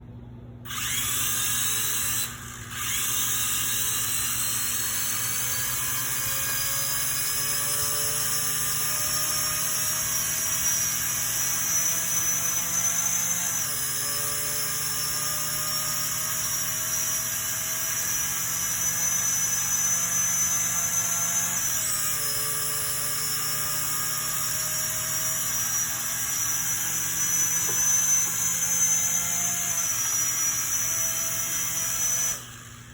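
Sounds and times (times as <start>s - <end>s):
drone motors whining: 0.7s - 32.9s.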